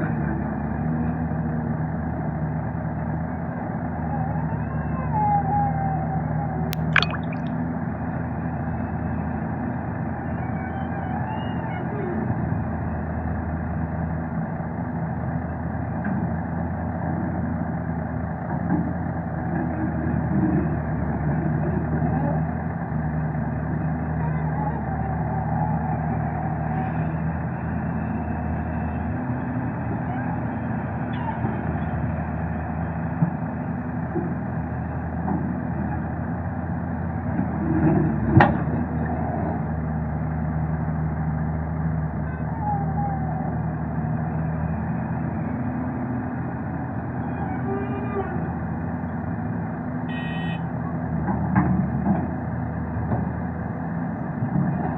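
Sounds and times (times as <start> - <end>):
excavator diesel engine running: 8.6 - 54.9.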